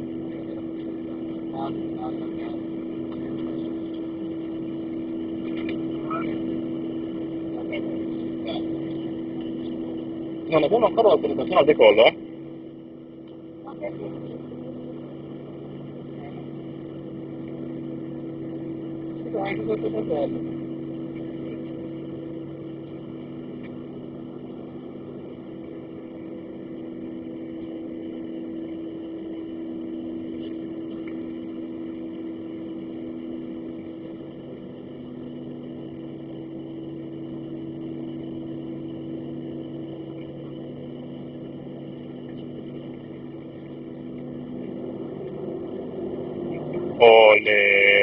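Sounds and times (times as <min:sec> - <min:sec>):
jet engines idling in cabin: 0:00.0 - 0:48.0.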